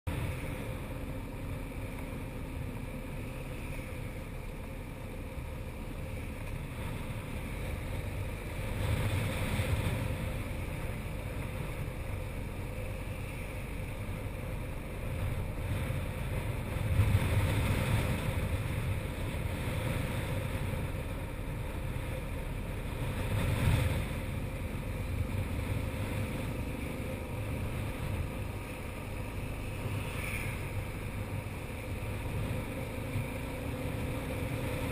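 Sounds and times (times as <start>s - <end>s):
wind rush over microphone: 5.8s - 34.9s.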